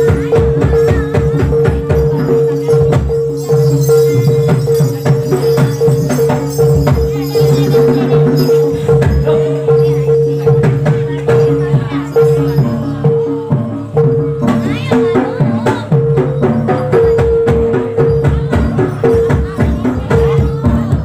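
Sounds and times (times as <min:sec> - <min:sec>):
drums and percussion: 0:00.0 - 0:21.0.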